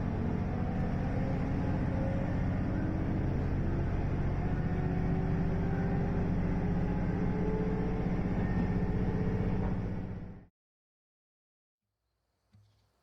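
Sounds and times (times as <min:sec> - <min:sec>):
train engine hum: 0:00.0 - 0:10.4.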